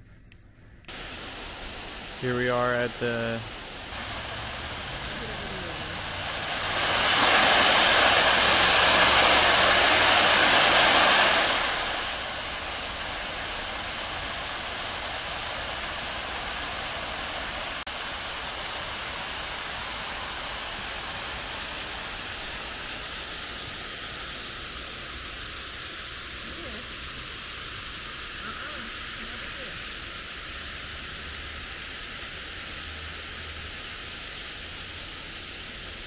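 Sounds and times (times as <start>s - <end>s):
small waterfall rushing: 0.9s - 36.0s.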